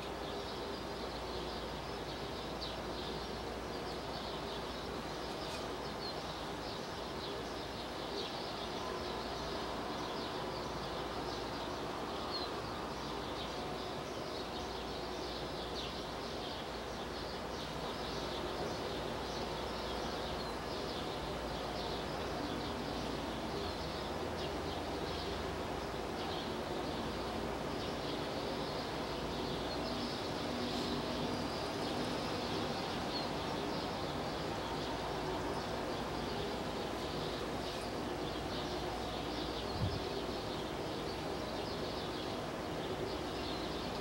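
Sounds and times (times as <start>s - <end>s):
birds chirping: 0.0s - 44.0s
outdoor background hum: 0.0s - 44.0s.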